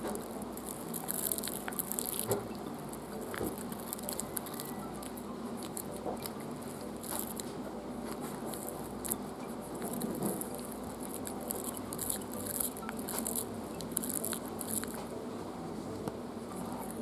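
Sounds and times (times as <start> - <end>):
puppy chewing plastic brush: 0.0 - 15.2.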